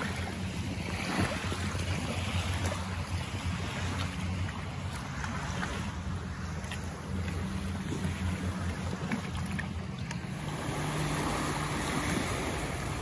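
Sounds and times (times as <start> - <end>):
low steady hum: 0.0 - 13.0
small waves lapping against boat hull: 0.0 - 13.0.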